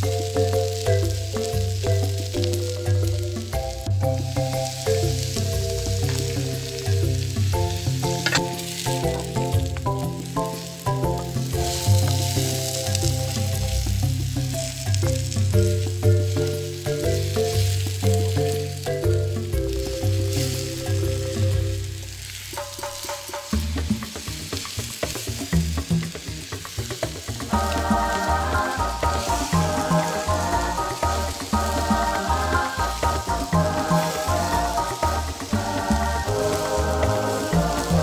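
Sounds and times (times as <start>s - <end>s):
background music with bass line: 0.0s - 38.0s
food sizzling in a frying pan: 0.0s - 38.0s
wooden spatula stirring: 0.0s - 38.0s.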